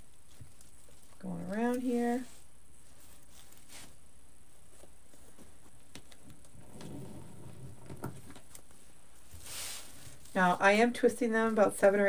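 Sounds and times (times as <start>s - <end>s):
ribbon rustling and crinkling: 0.0s - 10.6s.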